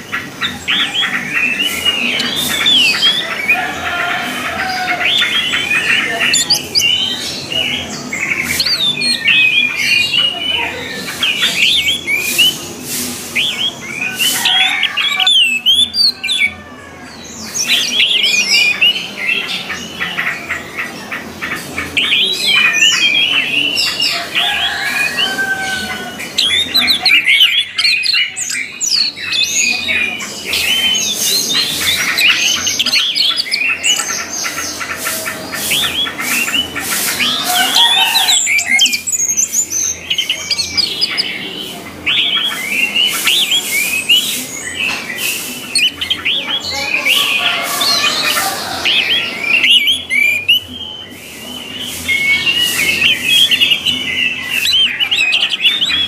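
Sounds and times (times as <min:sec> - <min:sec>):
thrushes singing: 0:00.0 - 0:56.0.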